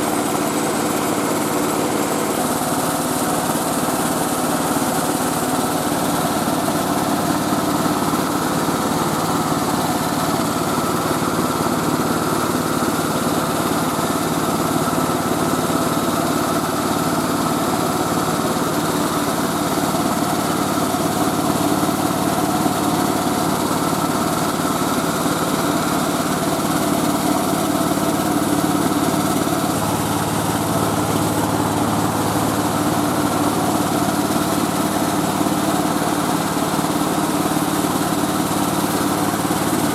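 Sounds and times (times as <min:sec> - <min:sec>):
rice milling machine engine droning: 0:00.0 - 0:39.9.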